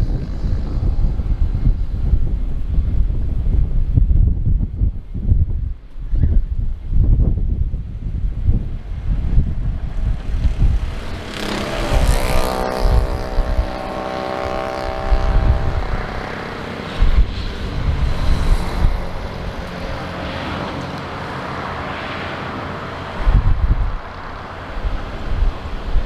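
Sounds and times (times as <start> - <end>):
high engine whine: 0.0 - 4.1, 7.3 - 26.0
aircraft engines passing: 0.0 - 6.1, 6.8 - 26.0
wind buffeting microphone: 0.0 - 26.0.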